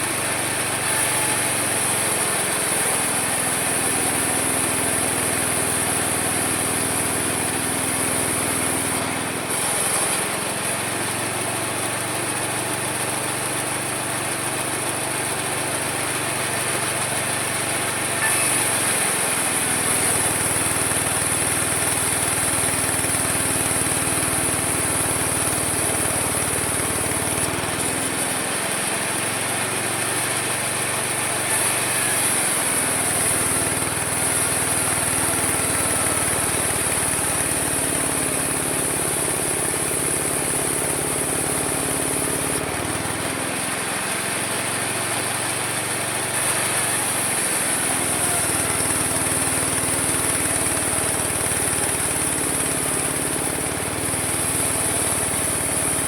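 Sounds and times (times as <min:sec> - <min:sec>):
sawmill sawing wood: 0:00.0 - 0:56.0.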